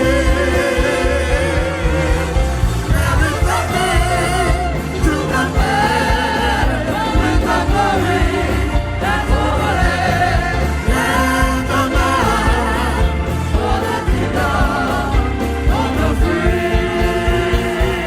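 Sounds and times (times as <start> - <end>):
gospel hymn singing with vibrato: 0.0 - 18.0
instrumental accompaniment with bass: 0.0 - 18.0.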